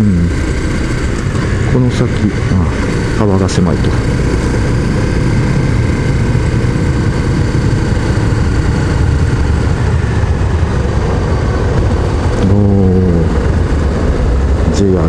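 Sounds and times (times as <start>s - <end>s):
motorcycle engine running: 0.0s - 15.0s
wind noise: 0.0s - 15.0s.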